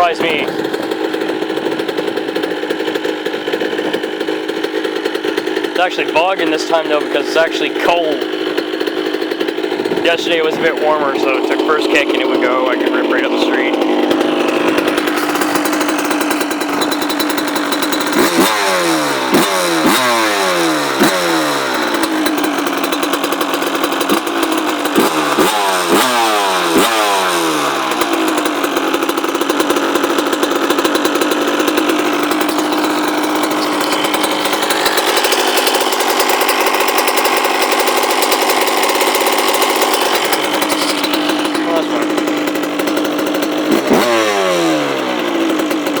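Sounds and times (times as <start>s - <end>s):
engine throttle blips: 0.0s - 46.0s
two-stroke engine idling: 0.0s - 46.0s.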